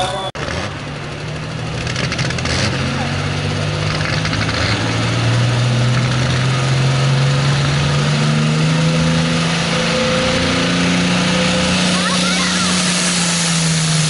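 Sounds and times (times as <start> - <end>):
tractor diesel engine revving: 0.0 - 14.0.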